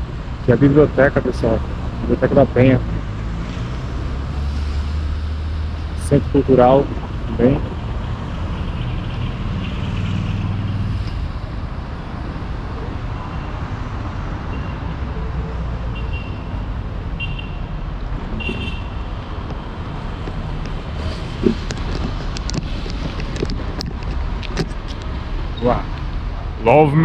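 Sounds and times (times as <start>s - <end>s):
cars going by: 0.0s - 27.0s.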